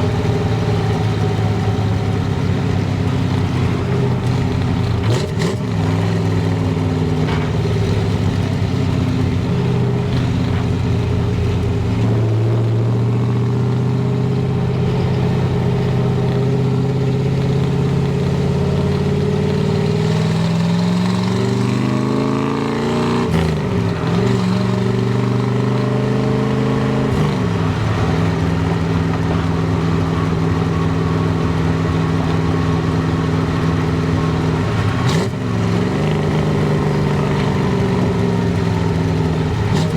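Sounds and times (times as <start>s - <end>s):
car engine exhaust while driving: 0.0s - 39.9s.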